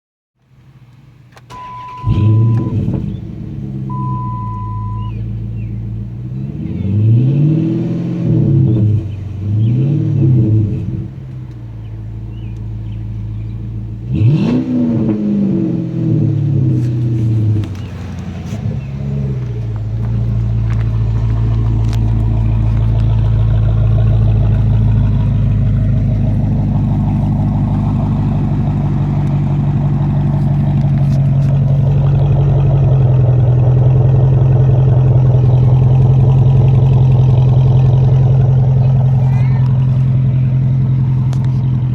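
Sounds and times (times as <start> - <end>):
car engine deep drone: 0.4 - 41.9
engine revving: 1.5 - 11.6, 12.3 - 41.9.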